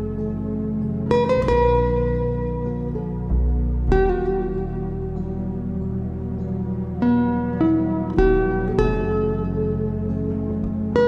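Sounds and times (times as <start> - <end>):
plucked instrumental music: 0.0 - 11.0.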